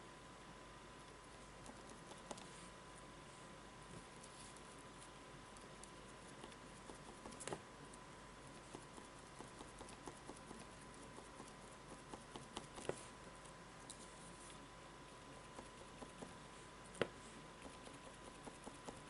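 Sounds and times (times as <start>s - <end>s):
thin steady hum: 0.0s - 19.0s.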